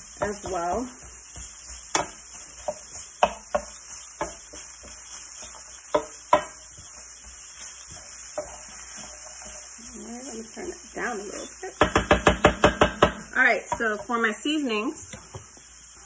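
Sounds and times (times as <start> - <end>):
wooden spatula scraping and knocking: 0.0 - 14.4
frying sizzle: 0.0 - 16.0.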